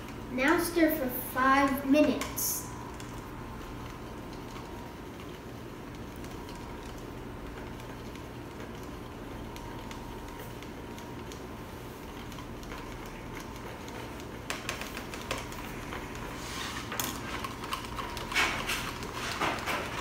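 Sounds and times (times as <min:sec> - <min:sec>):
steady low hum: 0:00.0 - 0:20.0
stirrers clicking in plastic cups: 0:00.0 - 0:20.0.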